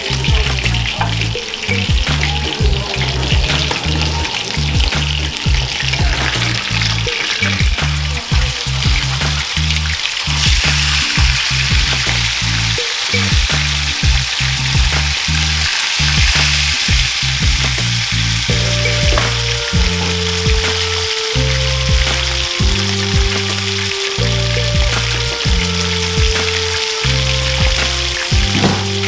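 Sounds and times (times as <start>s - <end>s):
fish sizzling in hot oil: 0.0s - 29.0s
music with pulsing bass: 0.0s - 29.0s.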